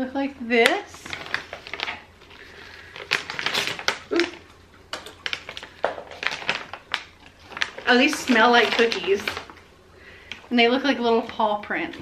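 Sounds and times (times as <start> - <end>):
plastic pouch crinkling: 0.7 - 12.0.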